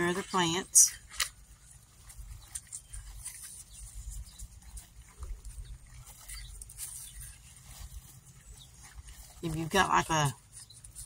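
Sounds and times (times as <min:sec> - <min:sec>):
sponge rustling on grass stems: 0:00.0 - 0:11.0.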